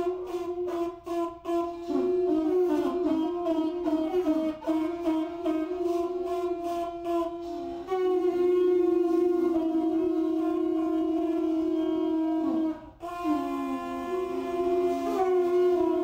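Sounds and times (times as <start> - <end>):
conch shell trumpets blowing: 0.0 - 16.0.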